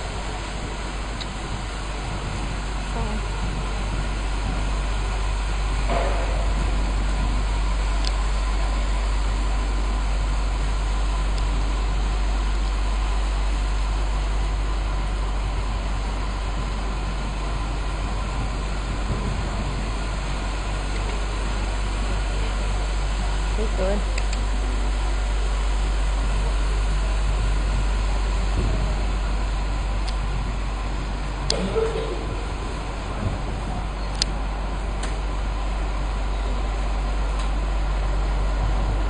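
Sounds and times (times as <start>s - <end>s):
low rumble and hiss: 0.0s - 39.0s.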